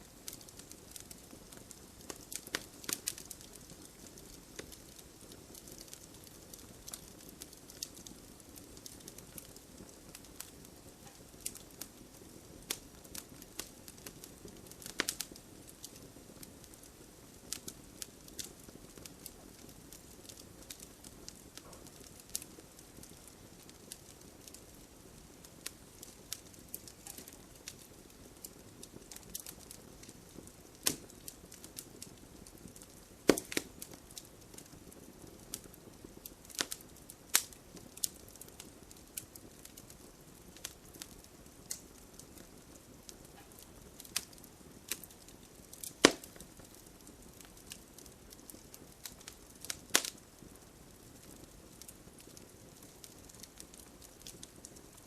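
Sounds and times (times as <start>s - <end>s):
campfire crackling: 0.0s - 55.0s
faint low hiss: 0.0s - 55.0s.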